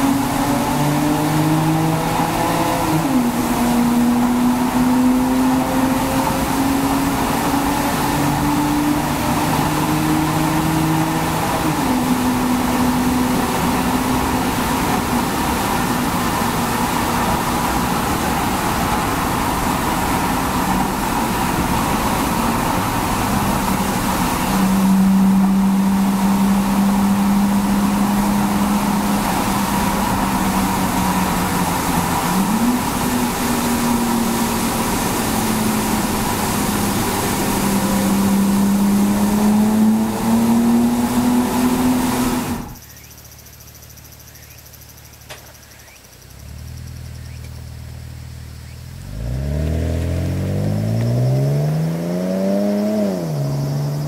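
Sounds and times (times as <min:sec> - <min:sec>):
car engine accelerating: 0:00.0 - 0:43.0, 0:45.6 - 0:54.0.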